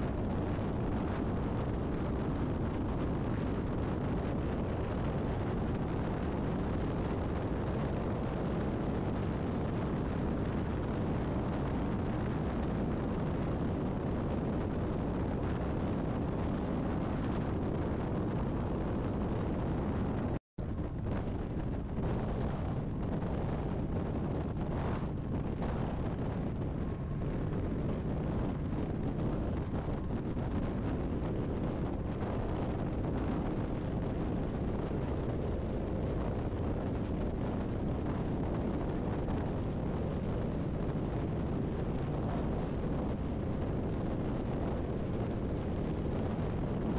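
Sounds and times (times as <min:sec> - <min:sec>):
highway road noise: 0:00.0 - 0:46.9
wind buffeting microphone: 0:00.0 - 0:46.9.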